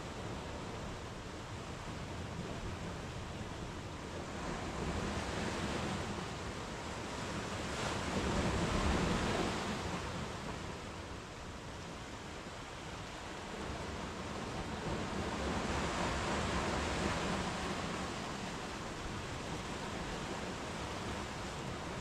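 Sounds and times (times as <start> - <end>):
sea waves washing on a beach: 0.0 - 22.0.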